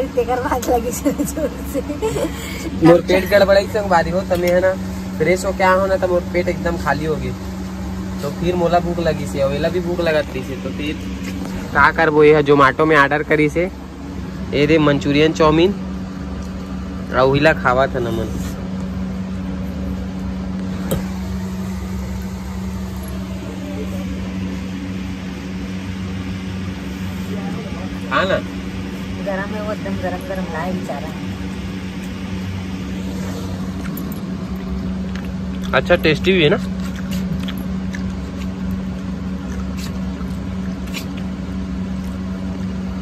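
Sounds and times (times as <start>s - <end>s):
low motor hum: 0.0s - 43.0s.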